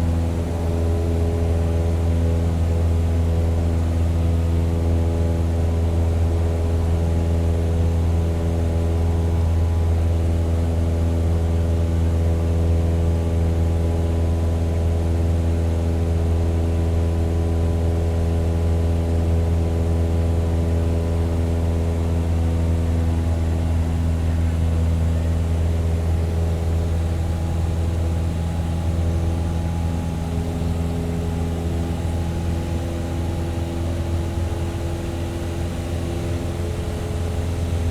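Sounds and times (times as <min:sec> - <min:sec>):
propeller aircraft engine droning: 0:00.0 - 0:37.9.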